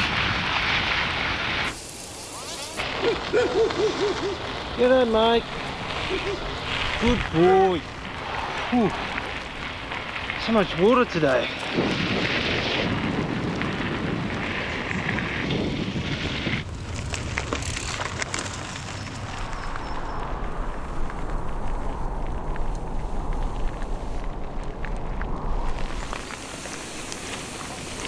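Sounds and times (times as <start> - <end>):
bicycle tyres on rough trail: 0.0 - 28.0
wind on microphone: 2.7 - 17.7, 19.0 - 28.0.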